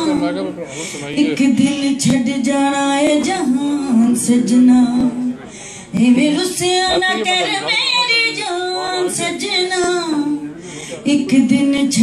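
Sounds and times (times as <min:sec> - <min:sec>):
woman singing into a microphone: 0:00.0 - 0:00.4, 0:01.0 - 0:12.0.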